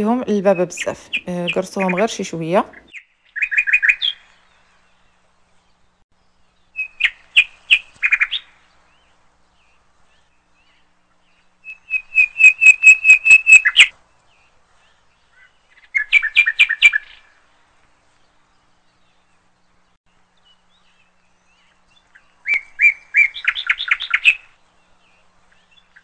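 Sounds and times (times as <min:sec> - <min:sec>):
bird chirping: 0:00.0 - 0:17.5, 0:18.1 - 0:26.0.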